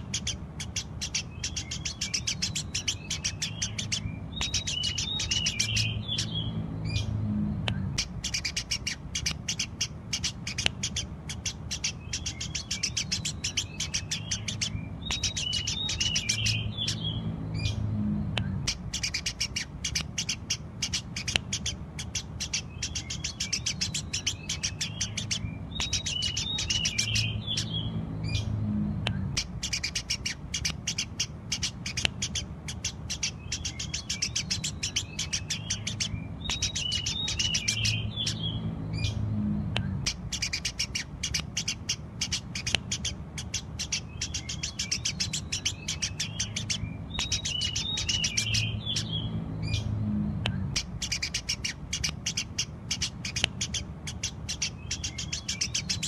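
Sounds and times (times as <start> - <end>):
warbled bird phrase: 0.0 - 7.2, 8.0 - 17.9, 18.6 - 28.5, 29.4 - 39.3, 40.0 - 50.1, 50.7 - 56.0
sparrows chirping: 0.0 - 56.0.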